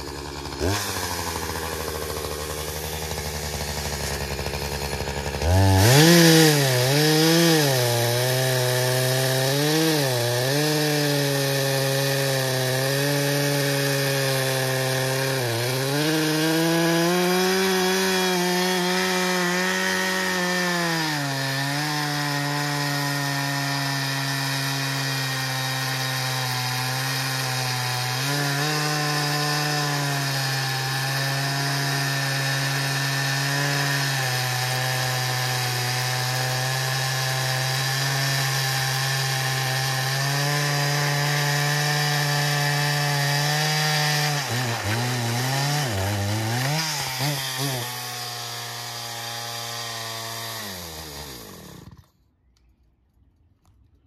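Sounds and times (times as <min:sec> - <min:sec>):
chainsaw cutting log: 0:00.0 - 0:52.2.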